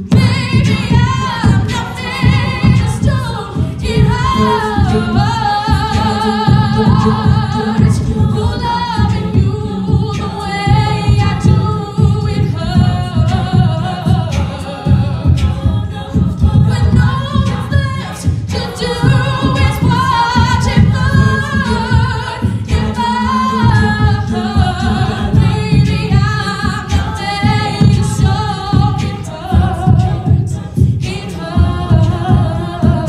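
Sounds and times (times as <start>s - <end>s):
steady beat: 0.0s - 33.0s
women singing in harmony: 0.0s - 33.0s.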